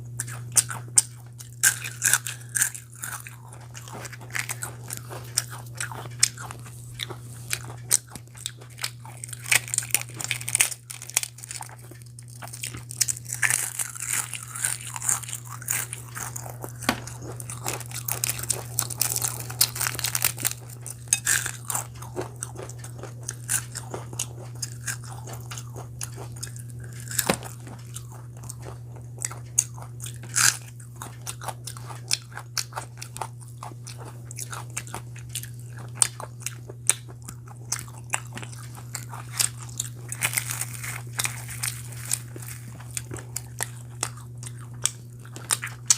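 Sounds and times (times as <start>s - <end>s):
steady low hum: 0.0s - 45.9s
person crunchy chewing: 0.1s - 45.9s.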